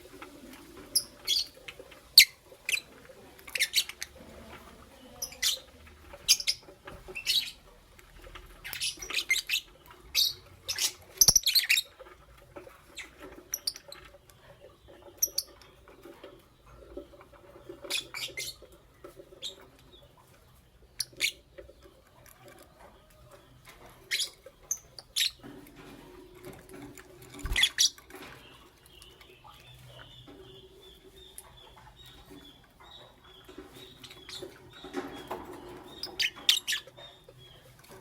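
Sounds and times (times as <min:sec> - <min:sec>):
lovebirds chirping and squeaking: 0:00.0 - 0:38.0.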